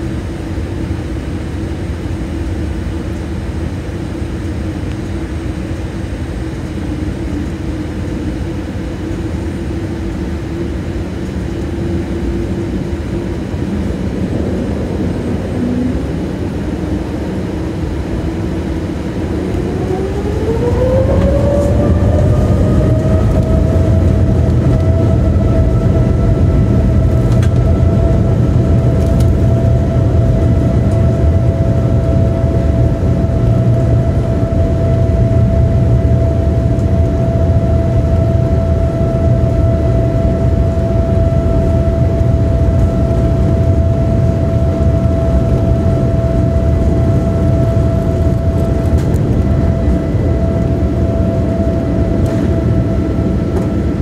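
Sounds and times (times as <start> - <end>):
jet engine whine: 0.0 - 54.0
low engine rumble: 0.0 - 54.0.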